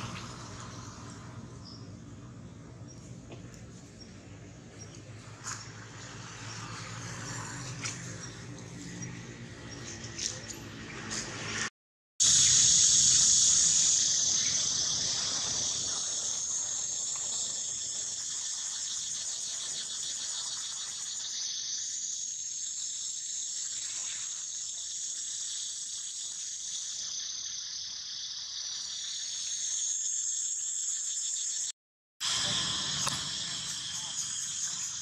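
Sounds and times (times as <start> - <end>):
insect chorus buzzing: 0.0 - 11.3, 12.2 - 35.0.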